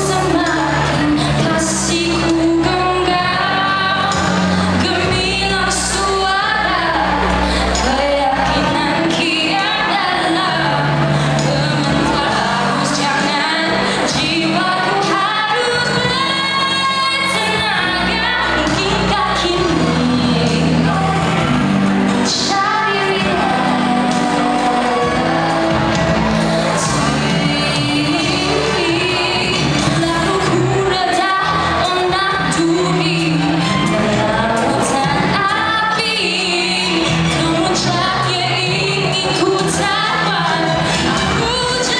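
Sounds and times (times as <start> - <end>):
instrumental backing music: 0.0 - 41.9
woman singing into microphone: 0.0 - 41.9.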